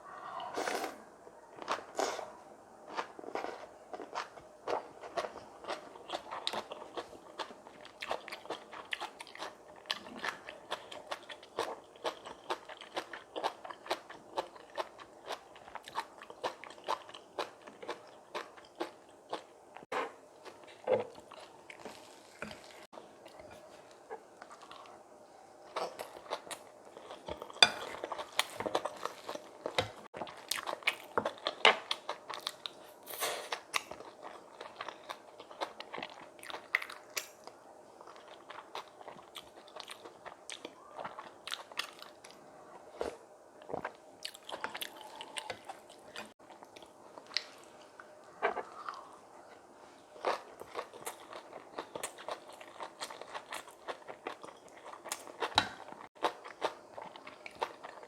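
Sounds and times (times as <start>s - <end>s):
person chewing and crunching food: 1.6s - 58.0s.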